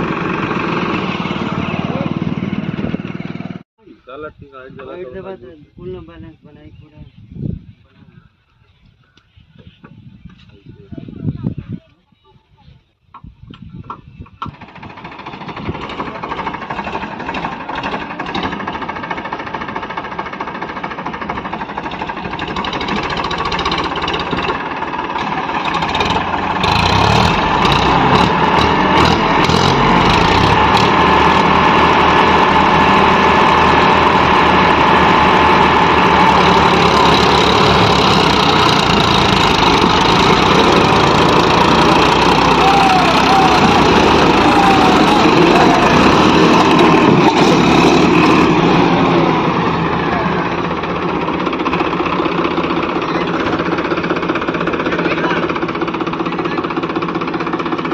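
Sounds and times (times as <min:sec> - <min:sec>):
tractor diesel engine running: 0:00.0 - 0:03.7, 0:13.6 - 0:57.9.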